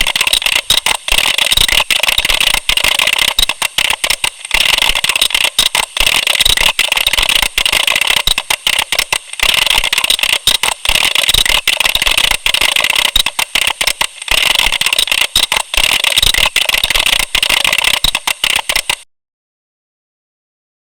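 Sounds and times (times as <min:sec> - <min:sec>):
computer keyboard typing: 0:00.0 - 0:19.1.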